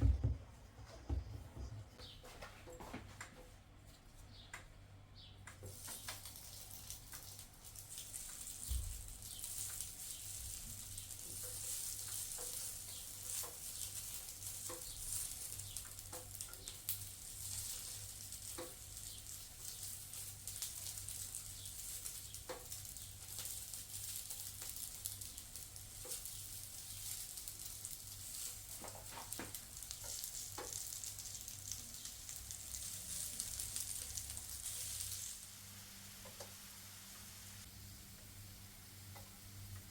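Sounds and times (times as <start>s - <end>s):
food sizzling in frying pan: 5.6s - 39.9s.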